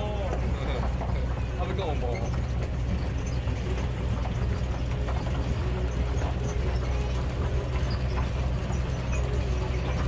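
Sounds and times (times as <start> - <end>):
shuttle vehicle humming: 0.0 - 10.0.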